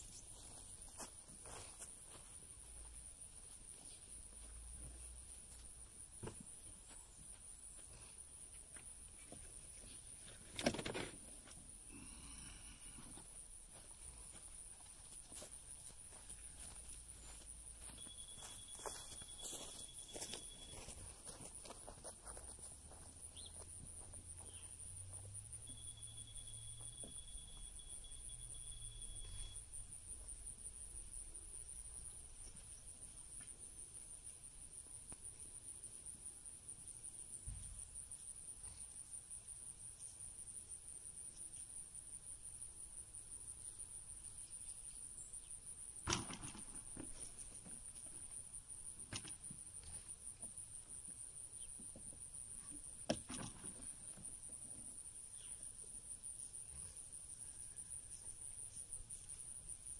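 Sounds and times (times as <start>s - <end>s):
high-pitched insect chorus: 8.5s - 59.9s.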